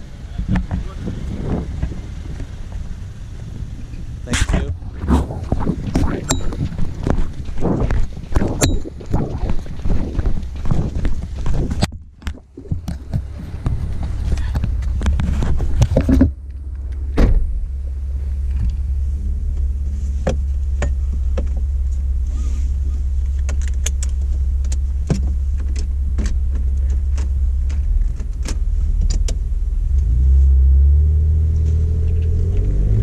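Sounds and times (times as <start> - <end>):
car engine rumbling: 0.0 - 33.0.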